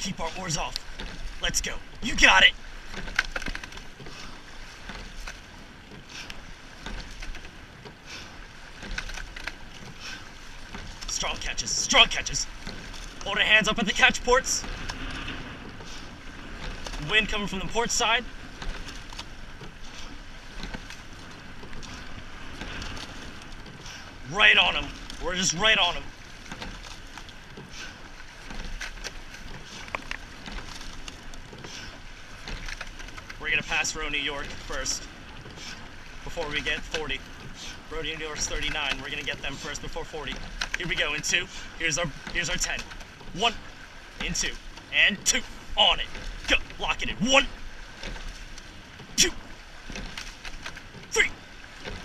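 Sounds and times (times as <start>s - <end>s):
oar blades catching water: 0.0s - 14.0s, 14.6s - 33.8s, 40.3s - 52.0s
oars clunking in oarlocks: 0.0s - 52.0s
water rushing along hull: 0.0s - 52.0s.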